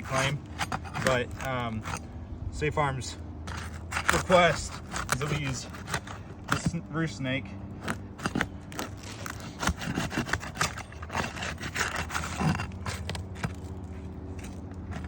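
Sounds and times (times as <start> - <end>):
shingle scraping and cracking: 0.0 - 15.0
steady low hum: 0.0 - 15.0.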